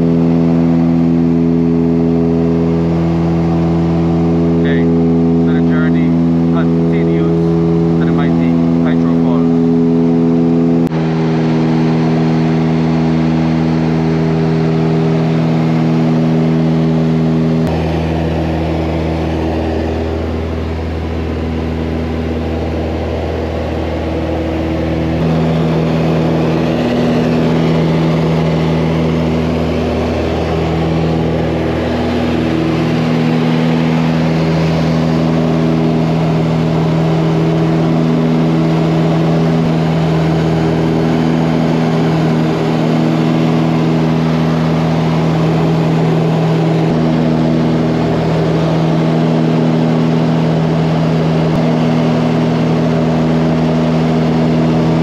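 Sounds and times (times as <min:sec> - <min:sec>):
propeller aircraft engine hum: 0:00.0 - 0:55.0.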